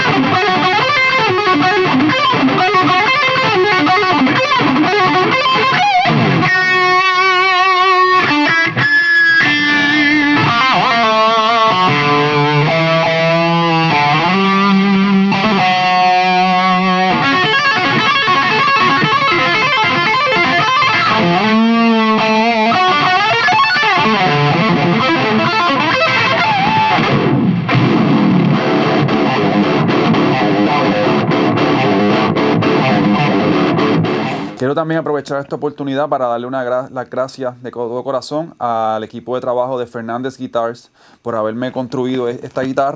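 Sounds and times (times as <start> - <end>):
distorted electric guitar: 0.0 - 35.0.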